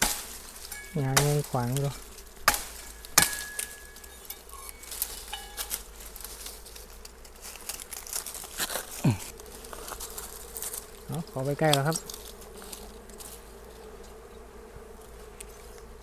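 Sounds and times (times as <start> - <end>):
branches snapping and cracking: 0.0 - 13.5
faint bees buzzing: 0.0 - 16.0.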